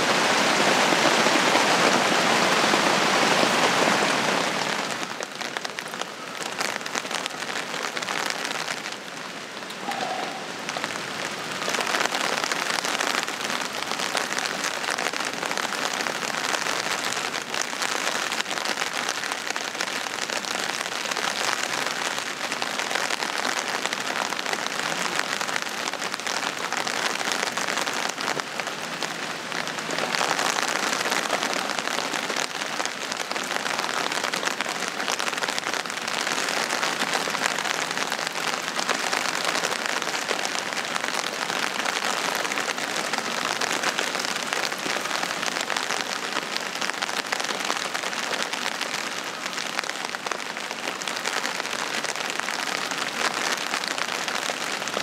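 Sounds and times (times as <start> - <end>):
rain on fabric shelter: 0.0 - 55.0.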